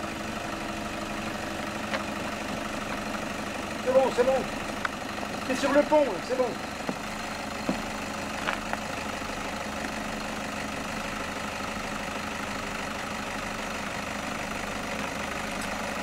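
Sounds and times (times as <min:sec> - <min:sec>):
truck engine at low revs: 0:00.0 - 0:16.0.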